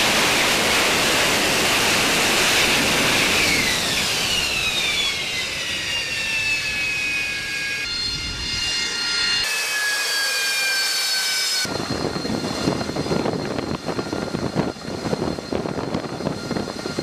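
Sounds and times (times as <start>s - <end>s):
helicopter rotor and turbine rumble: 0.0s - 17.0s
jet engine whining: 0.0s - 17.0s.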